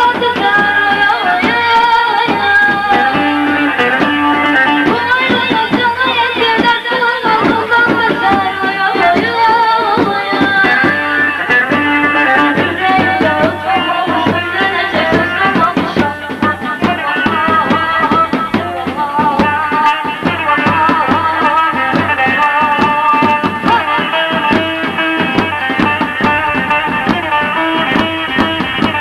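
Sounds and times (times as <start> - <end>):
fast drum beats: 0.0 - 29.0
ornamented folk melody: 0.0 - 29.0.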